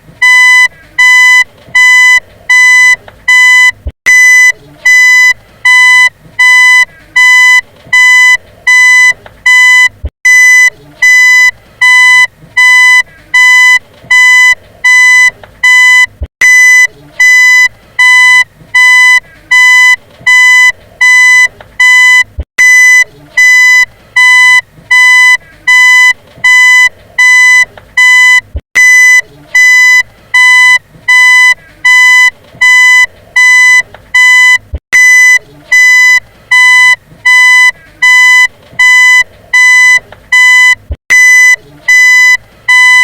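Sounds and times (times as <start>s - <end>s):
car reversing beeper: 0.2s - 43.0s.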